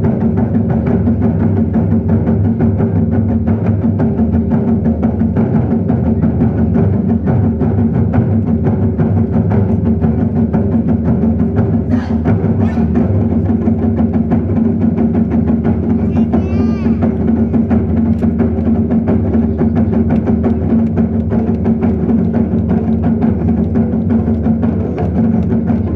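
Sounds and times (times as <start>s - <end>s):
heavy low drum boom: 0.0s - 25.9s
large drums rolling: 0.0s - 25.9s.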